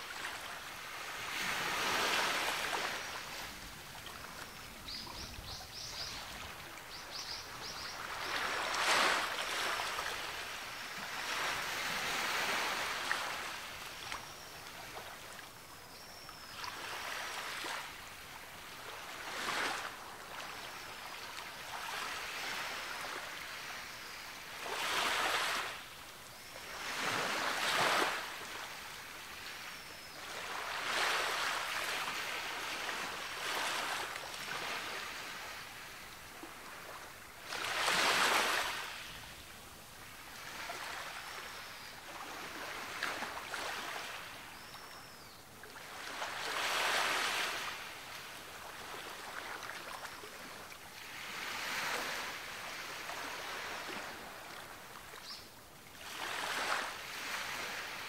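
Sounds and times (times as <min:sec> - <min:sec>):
ocean waves breaking on a beach: 0:00.0 - 0:58.0.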